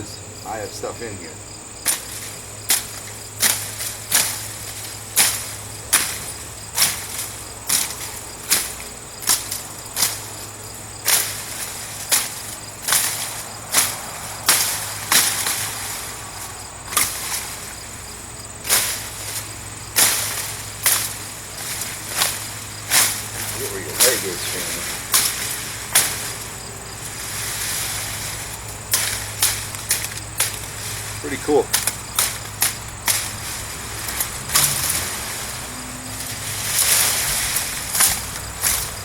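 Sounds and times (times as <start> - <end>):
machete chopping through weed stalks: 1.8 - 39.0.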